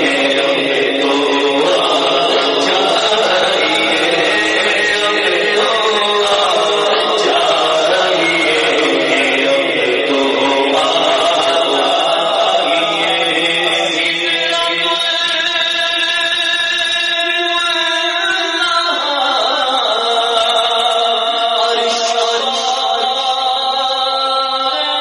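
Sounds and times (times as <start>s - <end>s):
man singing into a microphone: 0.0s - 25.0s.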